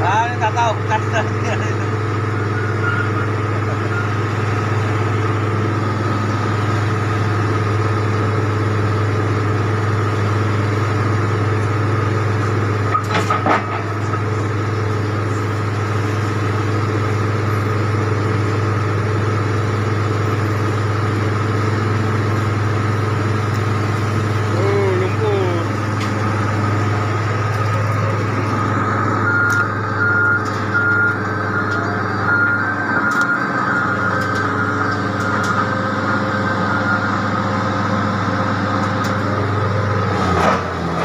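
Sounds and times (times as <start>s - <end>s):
drilling rig diesel engine: 0.0s - 41.0s.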